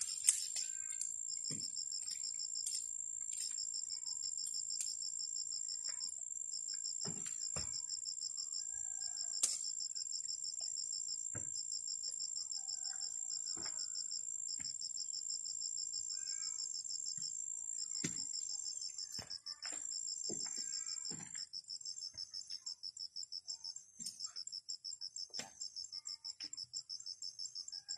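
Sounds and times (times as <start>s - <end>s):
insects chirping: 0.0s - 27.9s.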